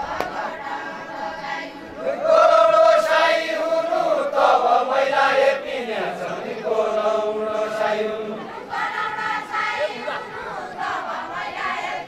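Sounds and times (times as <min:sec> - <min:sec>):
men chanting unaccompanied: 0:00.0 - 0:12.0.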